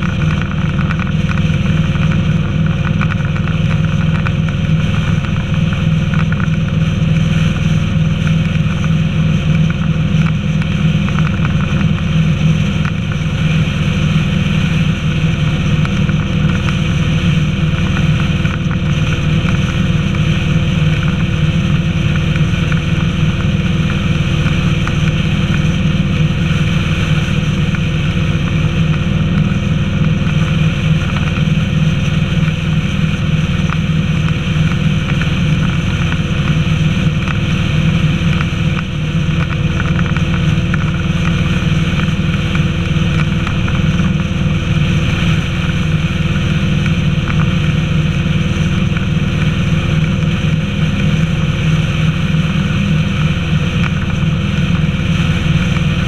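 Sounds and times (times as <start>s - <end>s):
motorcycle engine running: 0.0s - 56.0s
road noise: 0.0s - 56.0s
wind noise: 0.0s - 56.0s.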